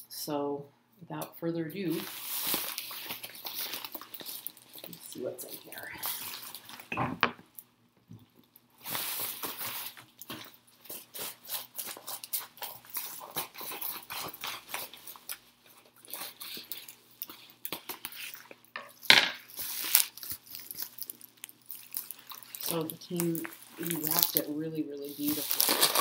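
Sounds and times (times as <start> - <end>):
package wrapping crinkling: 1.9 - 6.9, 8.3 - 26.0.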